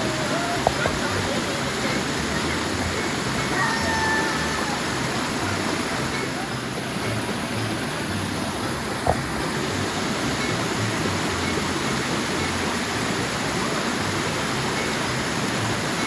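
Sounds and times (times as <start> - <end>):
waterfall pouring into pool: 0.0 - 16.0.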